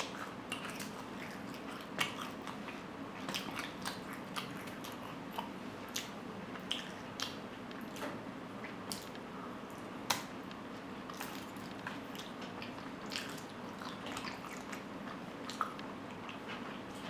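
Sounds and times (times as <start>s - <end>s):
faint steady hum: 0.0s - 17.0s
person chewing food: 0.0s - 17.0s.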